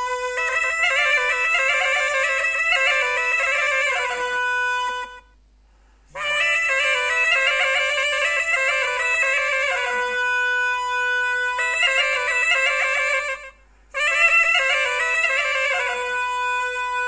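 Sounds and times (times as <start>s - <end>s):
reed pipe playing folk tune: 0.0s - 5.3s, 6.1s - 17.0s.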